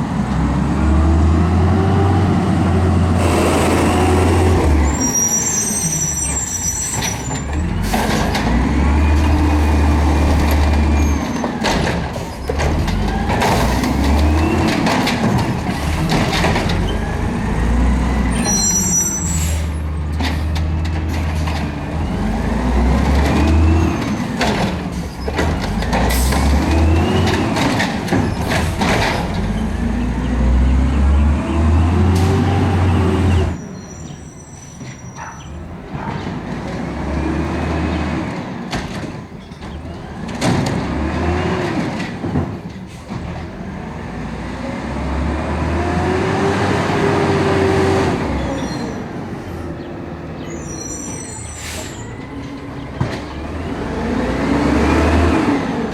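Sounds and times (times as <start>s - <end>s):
garbage truck engine revving: 0.0s - 33.6s, 35.5s - 55.9s.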